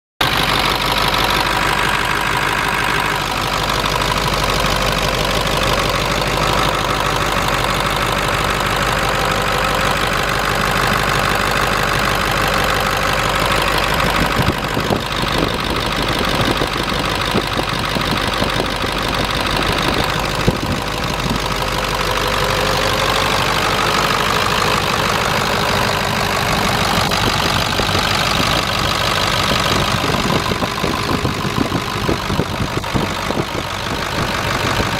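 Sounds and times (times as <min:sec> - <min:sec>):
diesel truck engine idling: 0:00.2 - 0:34.9.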